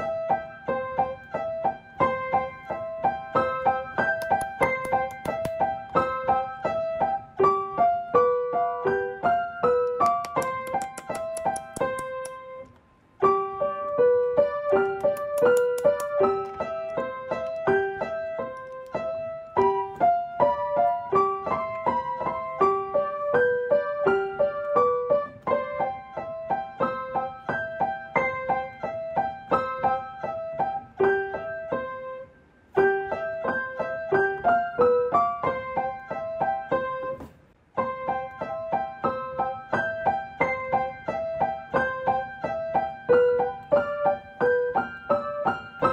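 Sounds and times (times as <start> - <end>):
piano melody: 0.0 - 45.9.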